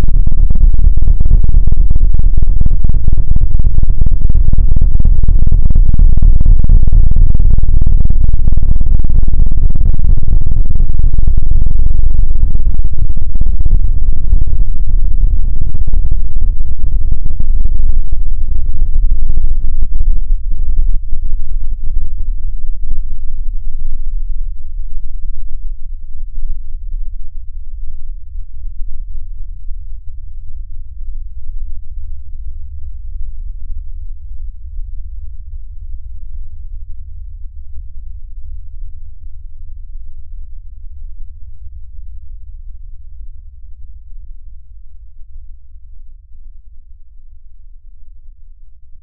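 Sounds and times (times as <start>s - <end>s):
deep distorted rumbling drone: 0.0s - 49.0s.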